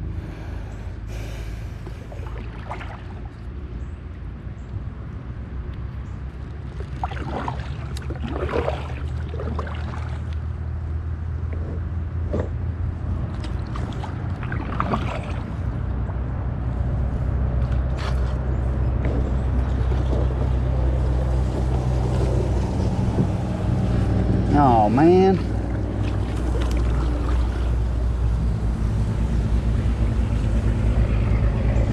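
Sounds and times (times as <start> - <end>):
low motor hum: 0.0 - 31.9.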